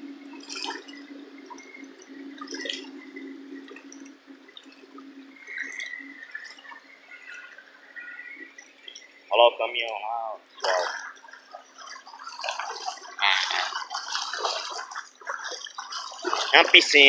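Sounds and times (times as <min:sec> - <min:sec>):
faint steady hum: 0:00.0 - 0:17.0
floodwater rushing: 0:00.4 - 0:09.0, 0:09.8 - 0:17.0.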